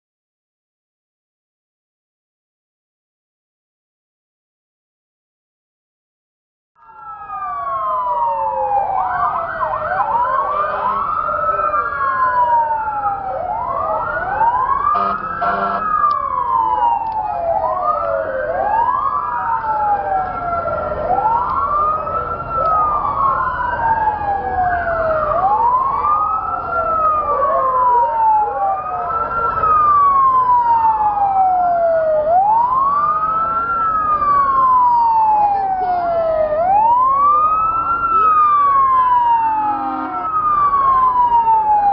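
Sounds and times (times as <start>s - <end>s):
emergency vehicle sirens wailing: 6.8s - 41.9s.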